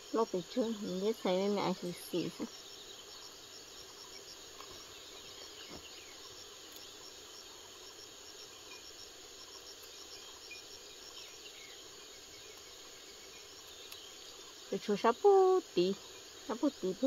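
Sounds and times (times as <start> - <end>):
insect chorus chirping: 0.0 - 17.0.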